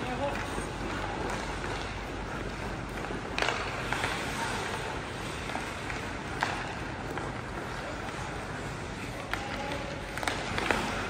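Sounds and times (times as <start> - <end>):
hockey sticks and puck clacking: 0.0 - 11.0
skate blades scraping ice: 0.0 - 11.0.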